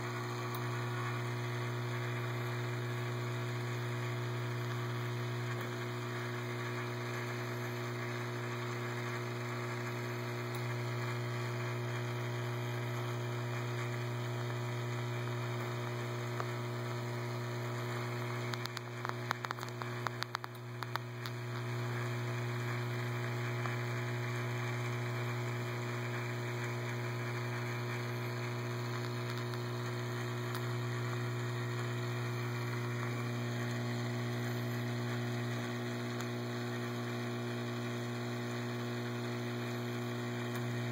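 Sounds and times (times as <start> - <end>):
aquarium equipment hum: 0.0 - 40.9
clicks and crackles: 0.1 - 7.3, 8.2 - 12.1, 12.8 - 40.8.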